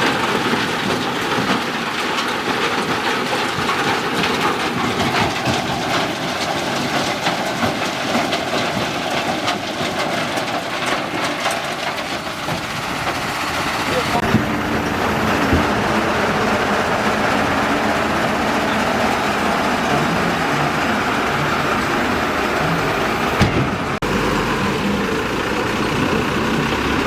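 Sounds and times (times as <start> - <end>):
clatter of rattles and clicks: 0.0 - 24.0
backhoe engine running: 0.0 - 27.0.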